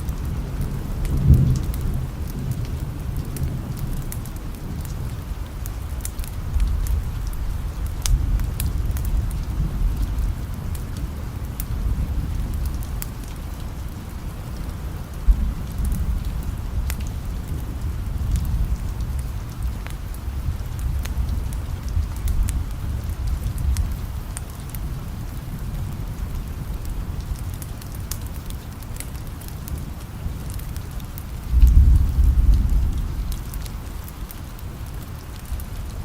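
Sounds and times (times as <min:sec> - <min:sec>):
fire crackling and popping: 0:00.0 - 0:36.0
steady rain: 0:00.0 - 0:36.0.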